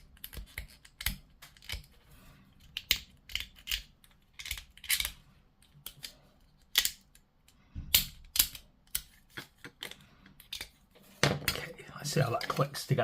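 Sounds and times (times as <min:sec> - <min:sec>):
plastic parts clicking together: 0:00.0 - 0:02.0, 0:02.6 - 0:12.6.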